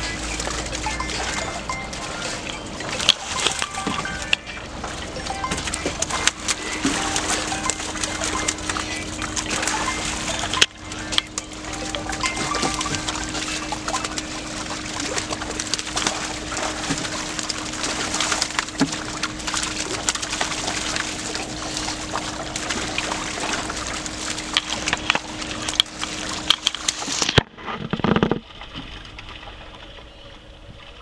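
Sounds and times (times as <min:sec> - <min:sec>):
fish splashing in net: 0:00.0 - 0:30.0
steady low hum: 0:00.0 - 0:31.0.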